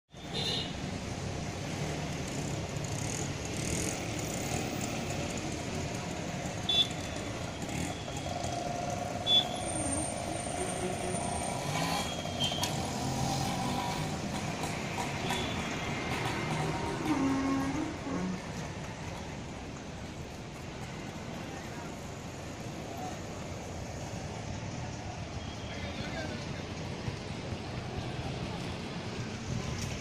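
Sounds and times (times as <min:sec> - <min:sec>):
railway station background din: 0:00.1 - 0:30.0.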